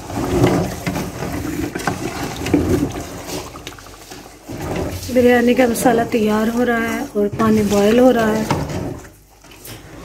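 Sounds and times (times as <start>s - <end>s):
water bubbling on the boil: 0.0s - 10.0s.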